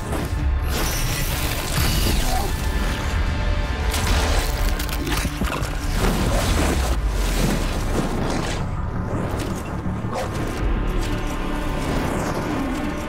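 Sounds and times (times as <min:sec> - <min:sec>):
film music: 0:00.0 - 0:13.0.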